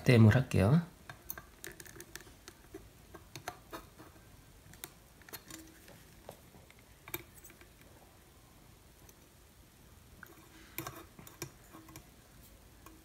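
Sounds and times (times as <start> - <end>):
soldering clicks and crackles: 1.0 - 7.9, 8.9 - 13.0.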